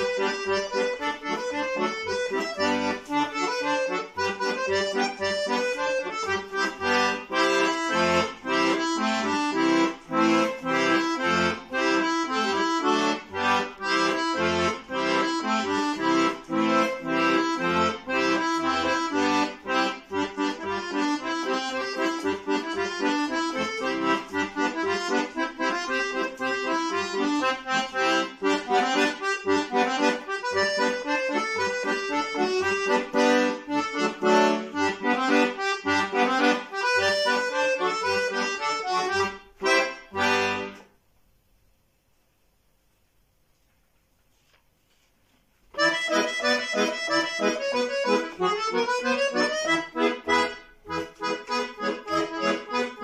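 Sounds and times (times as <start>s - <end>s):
accordion melody with bass chords: 0.0s - 41.5s, 45.7s - 53.0s.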